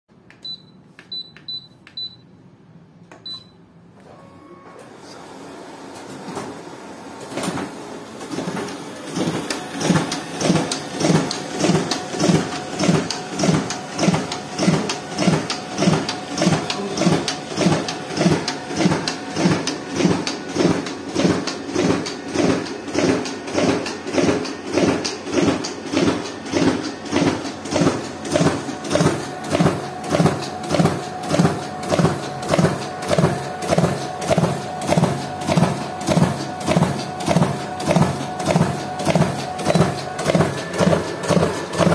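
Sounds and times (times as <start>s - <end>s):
printer mechanical beat: 7.2s - 41.9s.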